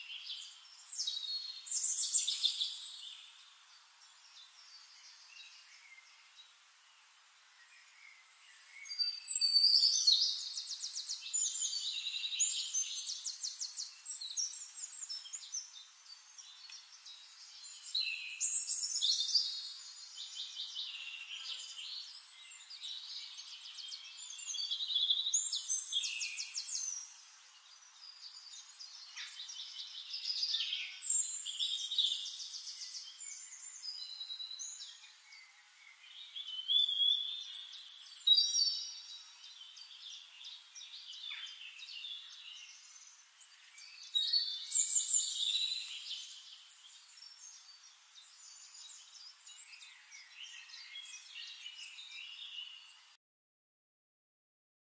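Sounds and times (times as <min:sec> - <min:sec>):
songbirds trilling and chirping: 0:00.0 - 0:53.2.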